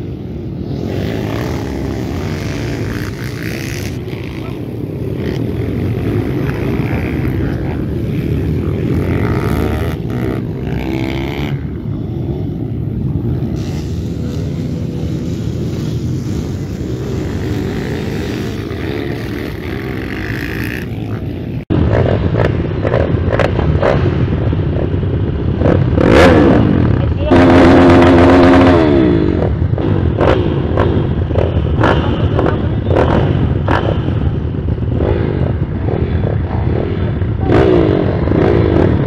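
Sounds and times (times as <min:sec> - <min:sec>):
dirt bike engines idling and revving: 0:00.0 - 0:39.0
dirt bike engines rumbling: 0:00.0 - 0:39.0.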